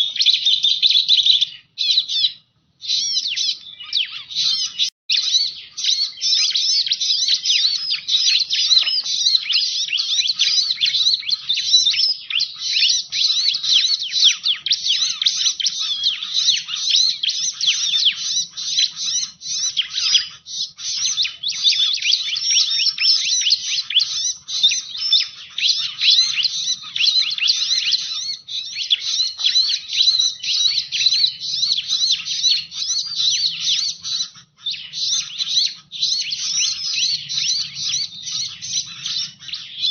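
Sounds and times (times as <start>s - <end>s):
bird high chirps and trills: 0.0s - 39.9s.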